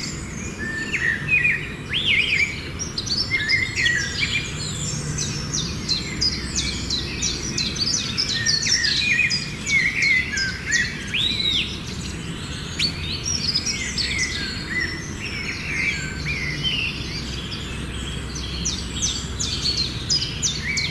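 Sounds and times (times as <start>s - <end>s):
birds chirping and whistling: 0.0s - 20.9s.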